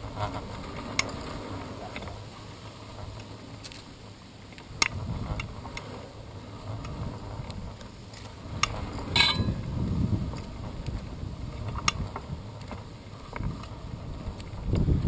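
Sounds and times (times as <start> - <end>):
bicycle clicks and rattles: 0.0 - 15.0
wind and road rumble: 0.0 - 15.0.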